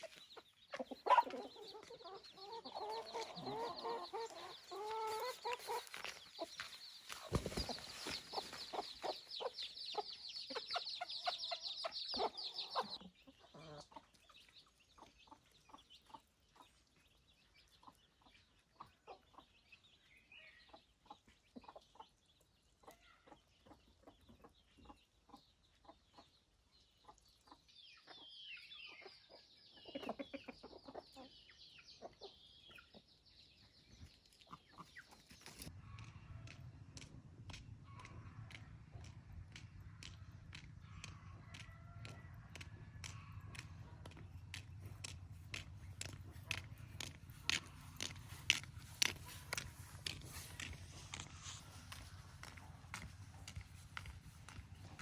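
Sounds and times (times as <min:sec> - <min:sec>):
chickens clucking and calling: 0:00.0 - 0:55.0.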